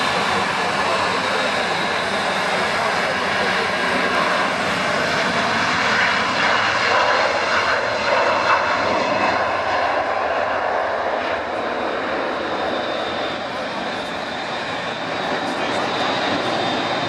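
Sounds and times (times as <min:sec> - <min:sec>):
airliner engines running: 0:00.0 - 0:17.0.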